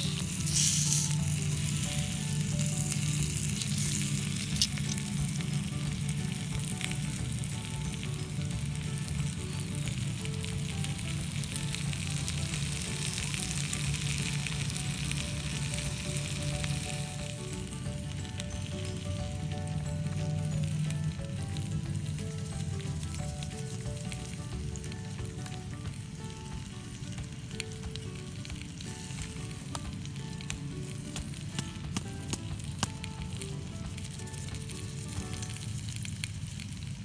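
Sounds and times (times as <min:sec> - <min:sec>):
mushrooms sizzling in a frying pan: 0:00.0 - 0:37.0.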